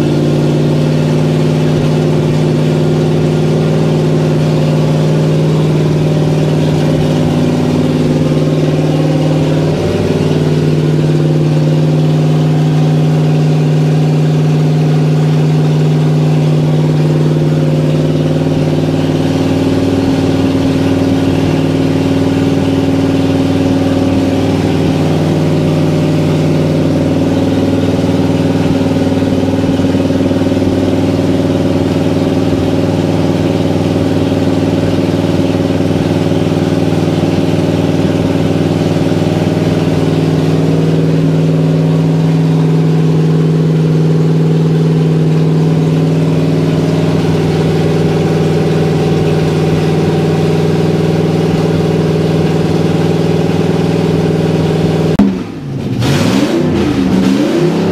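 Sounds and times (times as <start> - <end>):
truck engine running: 0.0 - 57.9.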